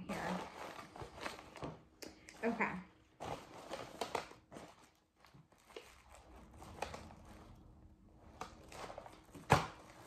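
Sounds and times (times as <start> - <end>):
plastic wrap rustling: 0.0 - 10.0.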